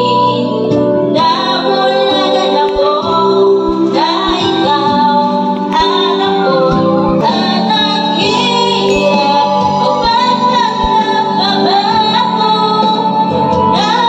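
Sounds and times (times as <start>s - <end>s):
pop song through speakers: 0.0s - 14.0s.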